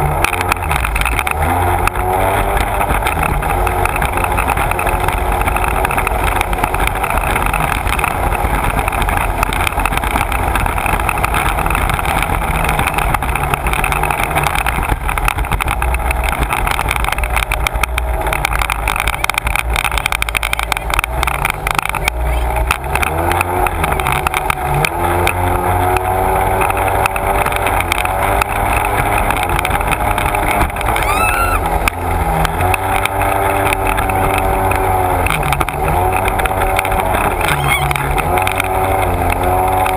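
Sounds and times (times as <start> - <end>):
watercraft engine running: 0.0 - 39.9.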